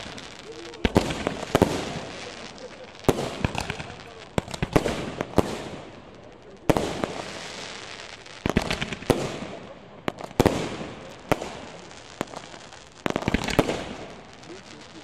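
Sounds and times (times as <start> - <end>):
fireworks bangs: 0.0 - 15.0
fireworks crackle: 0.0 - 15.0.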